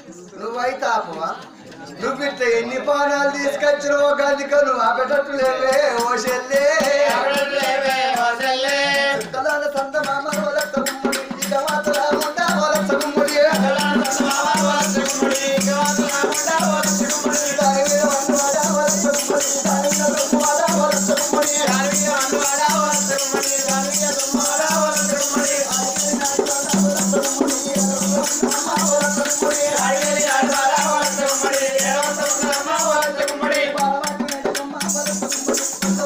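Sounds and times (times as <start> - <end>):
hand drum beat: 5.7 - 36.0.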